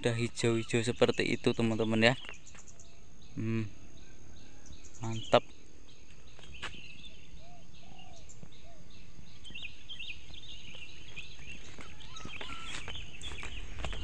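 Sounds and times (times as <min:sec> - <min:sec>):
short low bird calls: 0:00.0 - 0:05.6, 0:06.3 - 0:14.0
birds chirping: 0:00.0 - 0:14.0.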